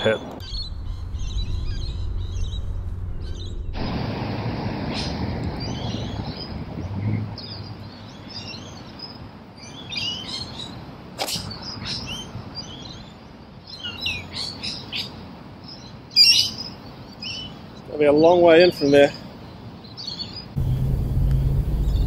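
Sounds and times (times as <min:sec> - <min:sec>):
birds chirping and calling: 0:00.0 - 0:03.9, 0:04.9 - 0:22.0.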